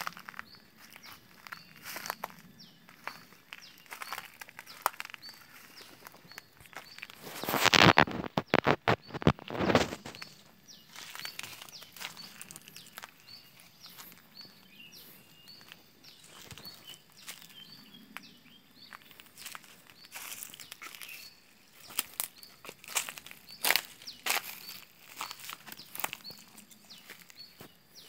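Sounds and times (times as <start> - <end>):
footsteps on dry leaves: 0.0 - 28.0
small birds chirping: 0.0 - 28.0.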